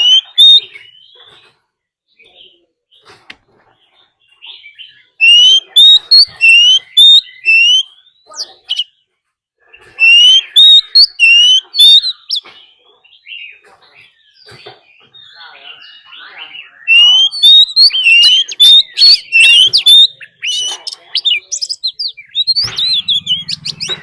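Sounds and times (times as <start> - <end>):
bird whistled song: 0.0 - 1.6, 4.0 - 9.0, 9.7 - 24.0.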